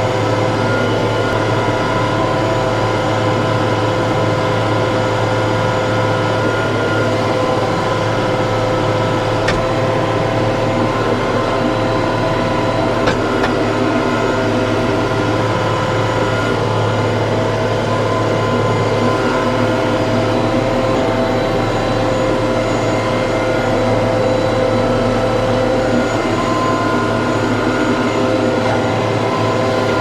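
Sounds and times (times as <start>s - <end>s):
tractor engine humming and whining: 0.0s - 30.0s.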